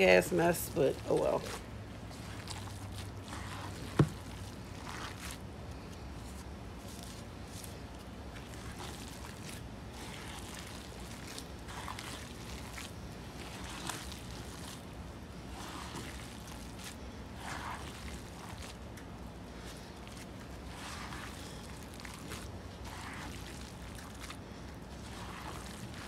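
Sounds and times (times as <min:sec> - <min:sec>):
hands squelching wet stuffing: 0:00.0 - 0:26.0.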